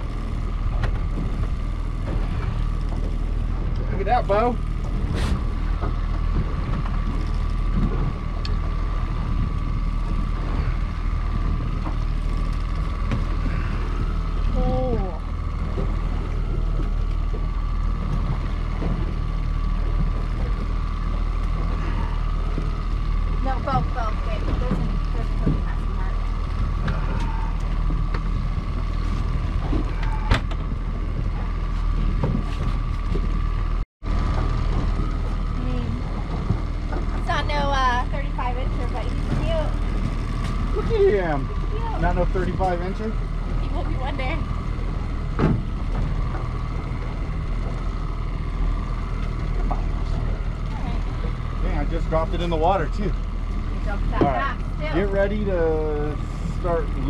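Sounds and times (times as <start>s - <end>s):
boat motor running: 0.0s - 57.0s.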